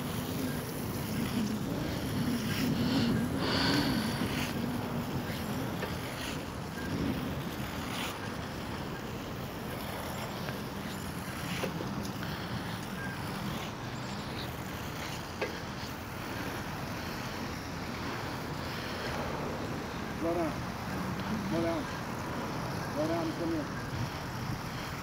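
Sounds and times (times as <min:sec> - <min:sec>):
skate wheels rolling on wet asphalt: 0:00.0 - 0:25.0.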